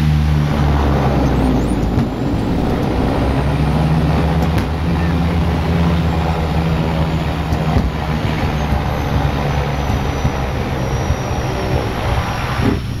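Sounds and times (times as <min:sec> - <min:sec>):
rattle and road noise: 0:00.0 - 0:13.0
vehicle engine droning: 0:00.0 - 0:13.0.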